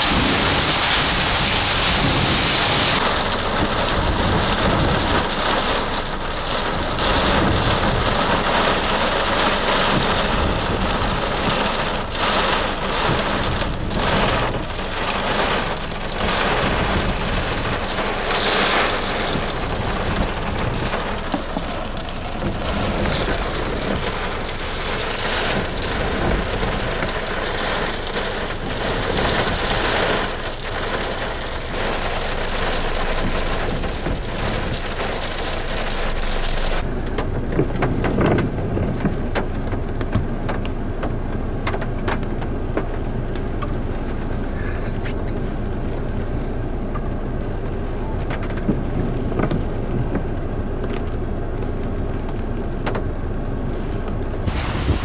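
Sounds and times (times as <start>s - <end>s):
heavy rain on car: 0.0s - 55.0s.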